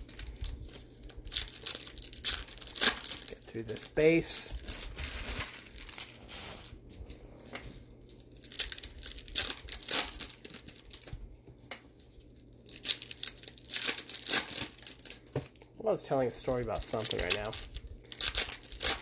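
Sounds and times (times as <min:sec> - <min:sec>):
card pack wrappers crinkling: 0:00.0 - 0:06.5, 0:08.0 - 0:11.2, 0:12.3 - 0:19.0.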